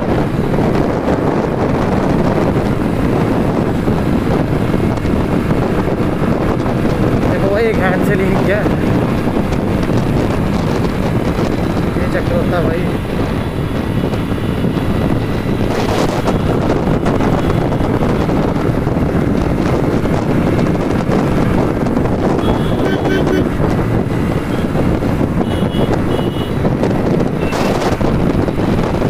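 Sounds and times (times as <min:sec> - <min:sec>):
motorcycle engine and road noise: 0:00.0 - 0:29.0
wind buffeting microphone: 0:00.0 - 0:29.0.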